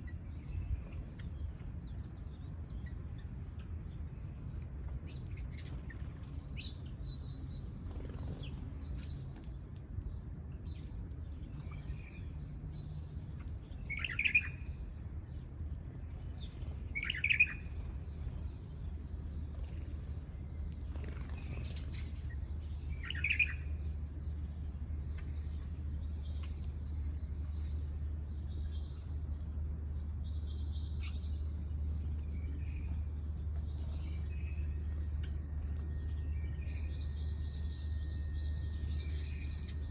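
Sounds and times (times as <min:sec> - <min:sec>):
sparrows chirping: 0:00.0 - 0:39.9
steady low rumble: 0:00.0 - 0:39.9.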